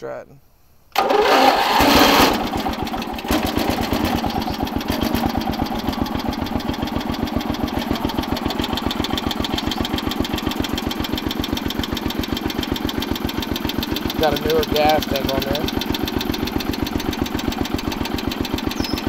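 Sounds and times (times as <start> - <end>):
lawn mower engine idling: 0.9 - 19.0.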